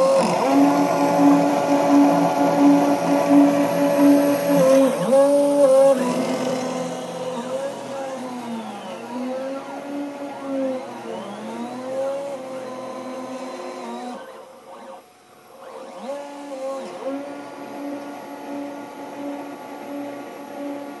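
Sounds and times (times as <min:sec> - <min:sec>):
milling machine motors whining: 0:00.0 - 0:21.0.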